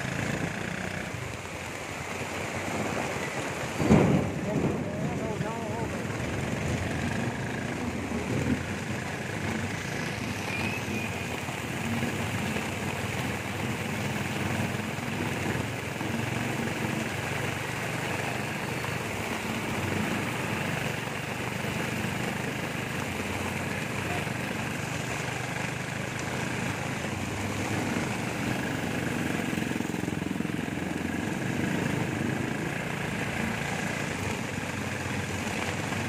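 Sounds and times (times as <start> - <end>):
heavy rain falling: 0.0 - 36.0
motorcycle engine running: 0.0 - 36.0.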